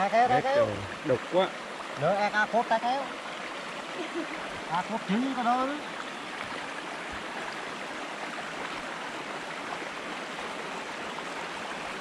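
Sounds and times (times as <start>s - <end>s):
river flowing: 0.0s - 12.0s.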